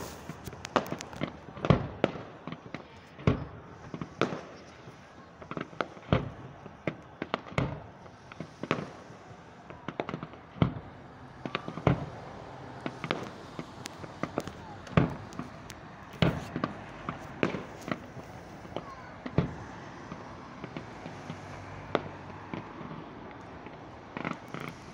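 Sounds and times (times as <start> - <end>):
fireworks bangs and pops: 0.0 - 24.9.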